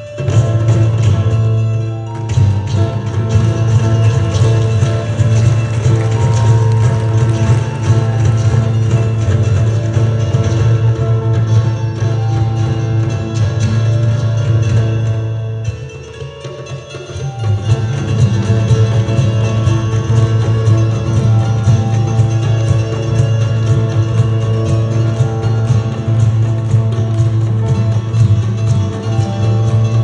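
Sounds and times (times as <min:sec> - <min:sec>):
instrumental ensemble with plucked strings: 0:00.0 - 0:30.0
steady bass: 0:00.3 - 0:15.4, 0:17.6 - 0:30.0.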